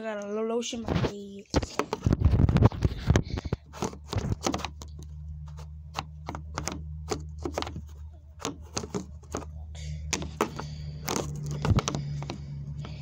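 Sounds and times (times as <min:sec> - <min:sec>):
steady low hum: 0:00.9 - 0:13.0
phone handling clicks and rubbing: 0:01.6 - 0:13.0.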